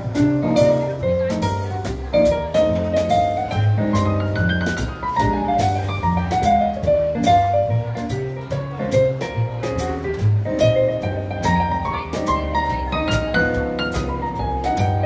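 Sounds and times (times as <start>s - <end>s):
drums keeping time: 0.0s - 15.0s
jazzy keyboard piano melody: 0.0s - 15.0s.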